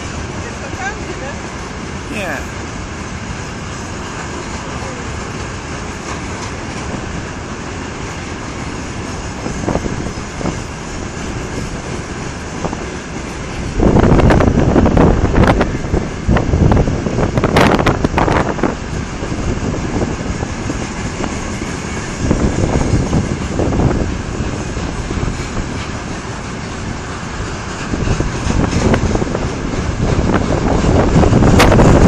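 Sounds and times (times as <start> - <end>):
train rolling on rails: 0.0 - 32.0.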